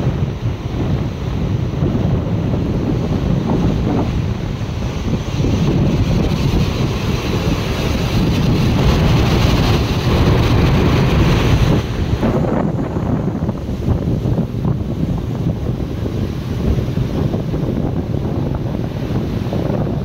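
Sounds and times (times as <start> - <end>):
surf washing over rocks: 0.0 - 20.0
wind buffeting microphone: 0.0 - 20.0.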